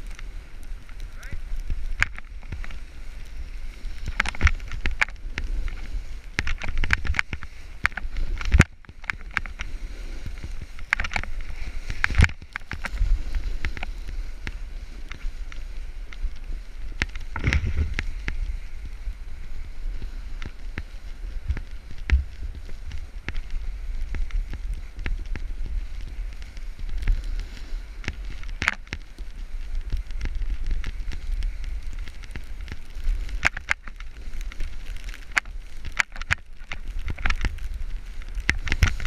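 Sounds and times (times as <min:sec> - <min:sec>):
skis sliding over snow: 0:00.0 - 0:39.0
wind buffeting microphone: 0:00.0 - 0:39.0.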